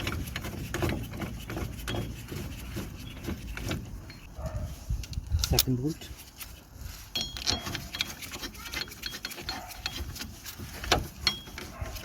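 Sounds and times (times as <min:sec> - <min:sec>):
light metallic clicks and scraping: 0:00.0 - 0:12.0.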